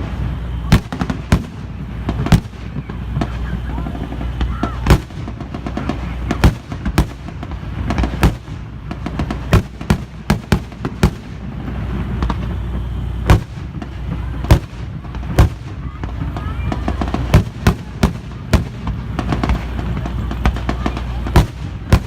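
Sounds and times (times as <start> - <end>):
loud bangs and booms: 0.0 - 22.0
steady low rumble: 0.0 - 22.0.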